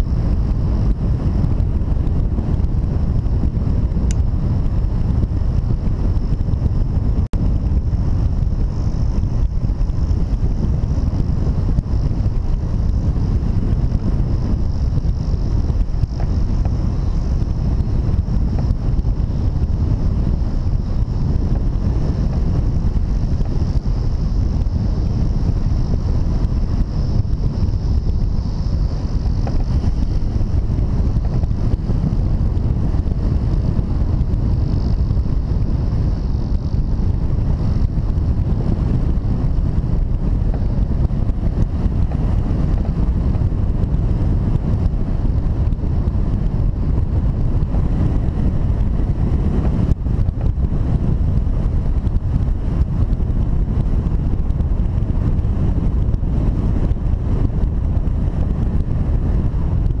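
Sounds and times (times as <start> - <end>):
wind rushing over microphone: 0.0 - 60.0.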